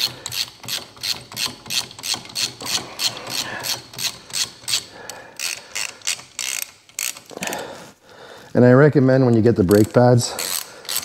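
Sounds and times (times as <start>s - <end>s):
hand ratchet clicking: 0.0s - 7.6s, 9.3s - 11.0s.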